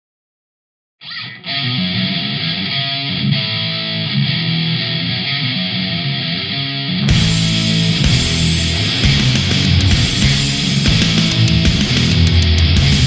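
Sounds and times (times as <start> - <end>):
muffled distorted electric guitar: 1.0 - 13.0.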